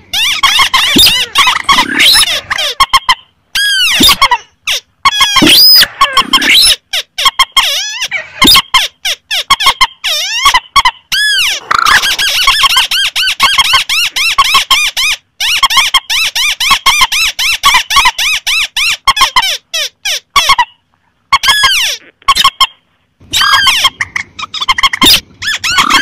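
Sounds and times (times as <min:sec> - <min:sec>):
recorded bird calls: 0:00.0 - 0:26.0.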